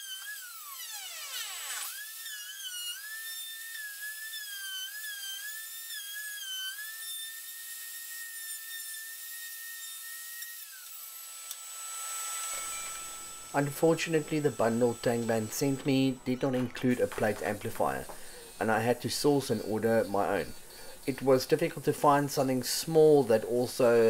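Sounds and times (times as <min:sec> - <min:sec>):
router whining: 0:00.0 - 0:24.0.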